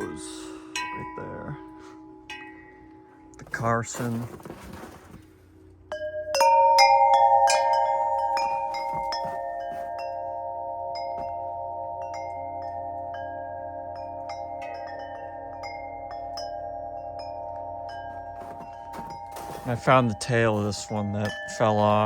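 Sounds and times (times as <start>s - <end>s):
wind chime ringing: 0.0s - 4.0s, 5.9s - 22.0s.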